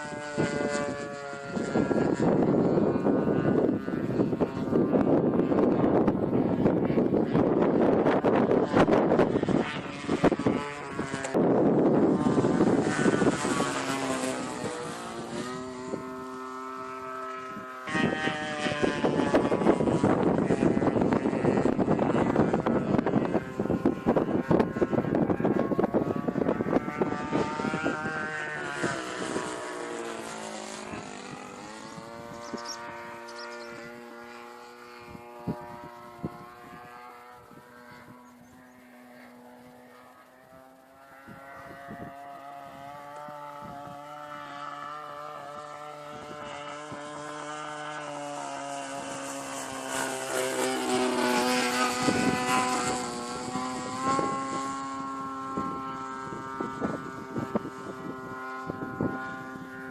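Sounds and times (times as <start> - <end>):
biplane piston engine: 0.0 - 59.9.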